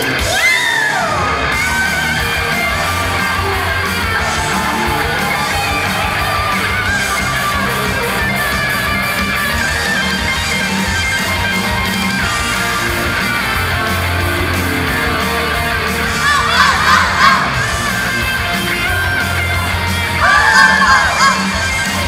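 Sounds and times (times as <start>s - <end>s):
strummed electric guitar: 0.0s - 22.0s
upbeat pop song: 0.0s - 22.0s.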